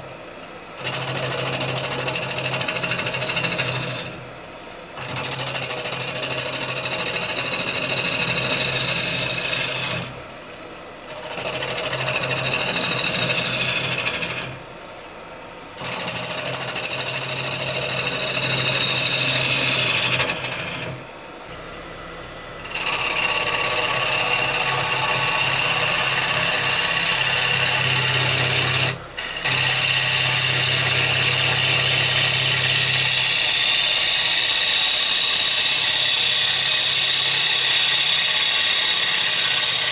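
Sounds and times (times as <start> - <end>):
gouge scraping wood on lathe: 0.8 - 4.3, 5.0 - 6.3, 7.5 - 10.2, 11.1 - 14.6, 15.8 - 39.9
lathe hum: 0.8 - 10.3, 11.1 - 14.7, 15.8 - 39.9.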